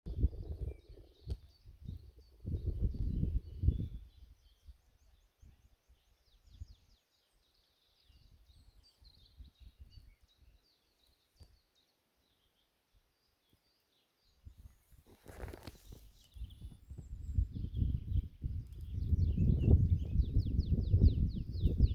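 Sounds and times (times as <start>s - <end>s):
small birds twittering: 0.1s - 21.9s.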